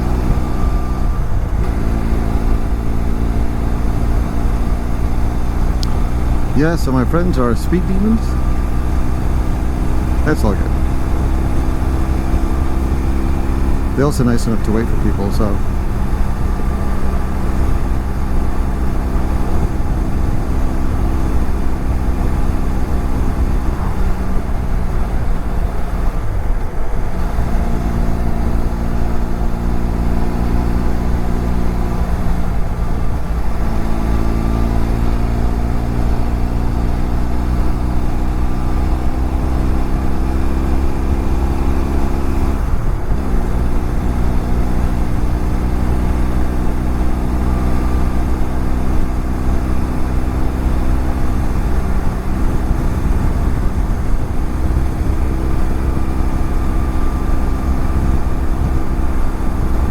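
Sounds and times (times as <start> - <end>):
motorcycle engine running: 0.0 - 59.9
wind rumble: 0.0 - 59.9.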